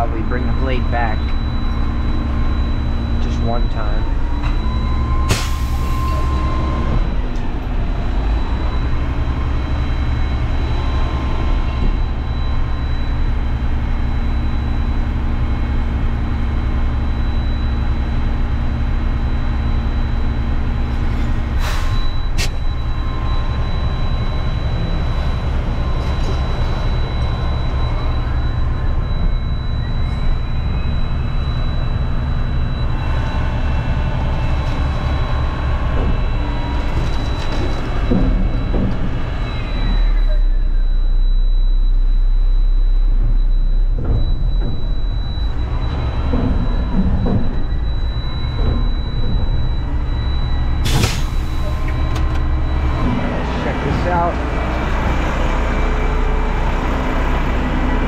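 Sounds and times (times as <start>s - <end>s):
garbage truck diesel engine running: 0.0s - 58.0s
hydraulic whine: 0.0s - 58.0s.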